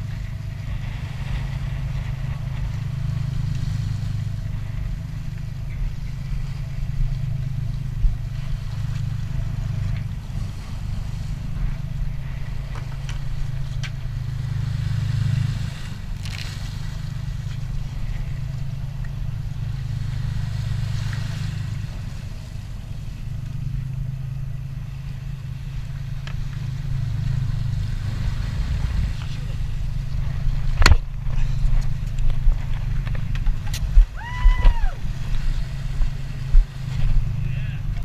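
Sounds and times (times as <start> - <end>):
boat engine droning: 0.0 - 38.0
water swishing: 0.0 - 38.0.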